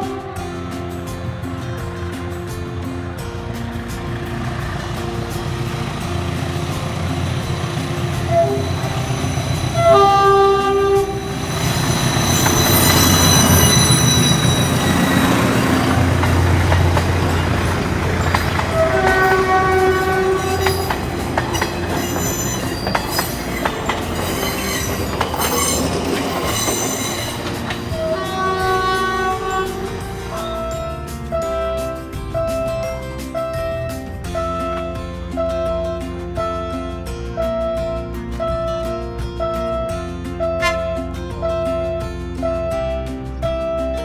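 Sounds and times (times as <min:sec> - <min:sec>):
train horn: 0:00.0 - 0:01.4, 0:04.0 - 0:32.1, 0:34.2 - 0:42.7
high wheel squeal: 0:00.0 - 0:38.8
train rumbling by: 0:00.0 - 0:44.0.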